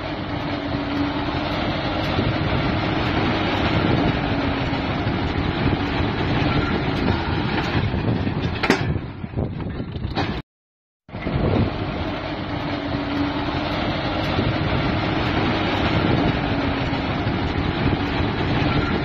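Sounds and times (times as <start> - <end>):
tractor engine and baler running: 0.0 - 10.4, 11.1 - 19.0.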